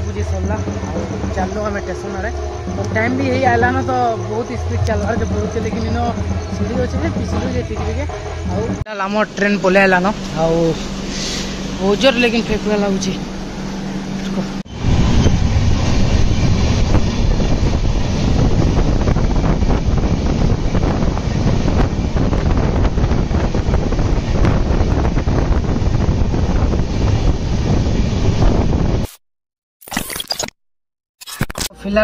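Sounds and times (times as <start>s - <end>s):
train rumble: 0.0s - 29.0s
wind buffeting microphone: 0.0s - 29.1s.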